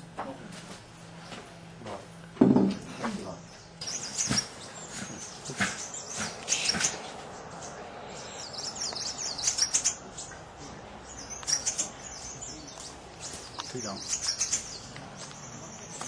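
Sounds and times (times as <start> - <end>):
birds chirping: 1.0 - 16.0.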